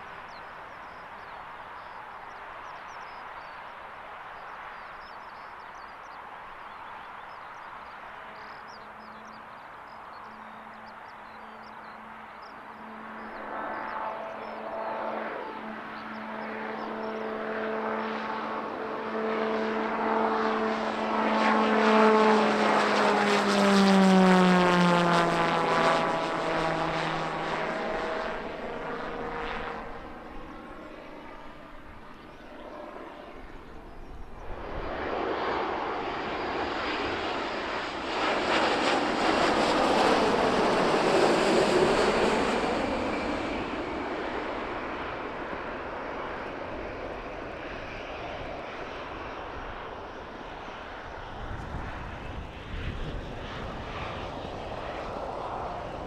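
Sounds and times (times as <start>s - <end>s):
airplane passing by: 0.0s - 56.0s.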